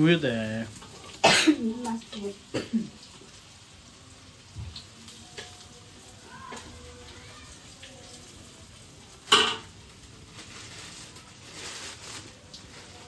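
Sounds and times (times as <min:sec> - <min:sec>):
fritters sizzling in oil: 0:00.0 - 0:13.0.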